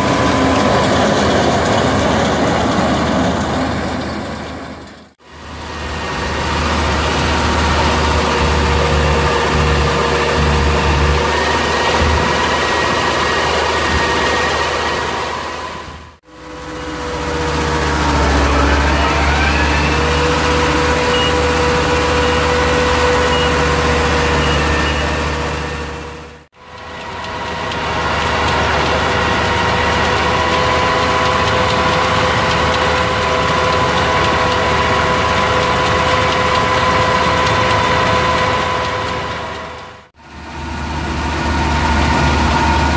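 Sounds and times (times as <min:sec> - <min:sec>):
rising whine: 0:00.0 - 0:42.9
tractor diesel engine running: 0:00.0 - 0:42.9.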